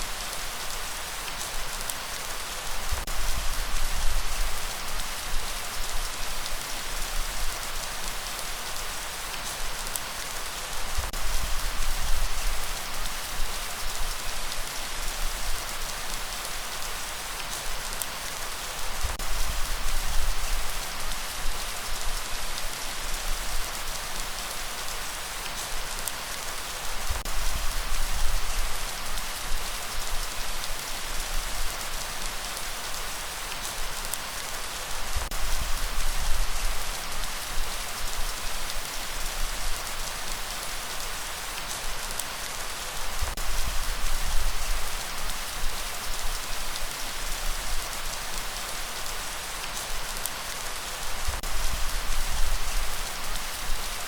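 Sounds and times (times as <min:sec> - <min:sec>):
light rain pattering: 0:00.0 - 0:54.0.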